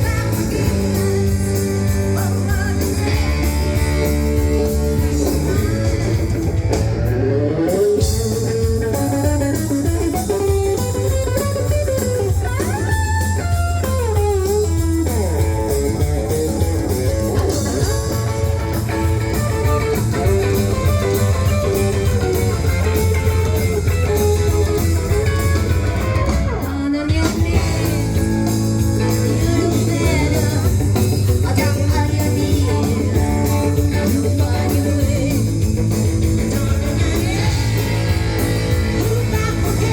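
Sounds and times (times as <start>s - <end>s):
electric guitar: 0.0s - 39.9s
rockabilly band playing: 0.0s - 39.9s.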